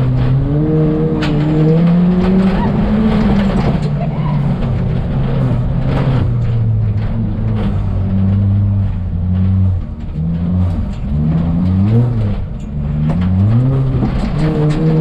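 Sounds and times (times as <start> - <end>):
rally car engine revving hard: 0.0 - 15.0.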